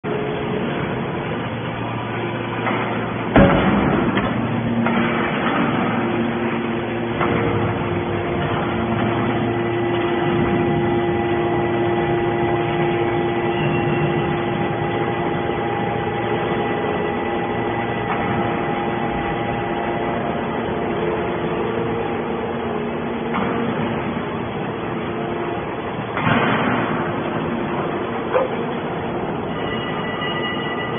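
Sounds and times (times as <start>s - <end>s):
machine hum: 0.0s - 30.9s
motor and pump whining: 0.1s - 30.9s.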